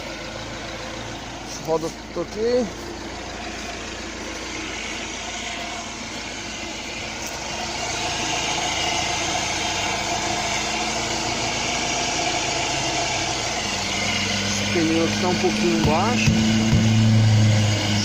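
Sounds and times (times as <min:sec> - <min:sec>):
motor vehicle engine running: 0:00.0 - 0:18.0.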